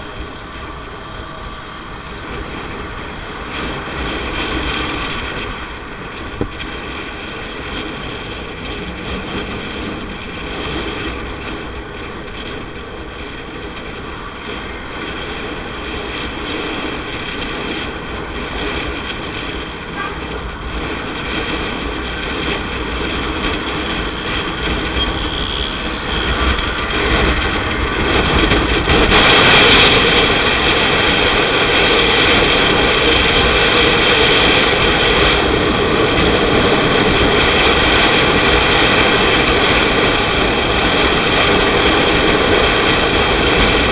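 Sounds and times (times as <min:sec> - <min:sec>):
motorcycle engine running: 0:00.0 - 0:43.9
road and wind noise: 0:00.0 - 0:43.9.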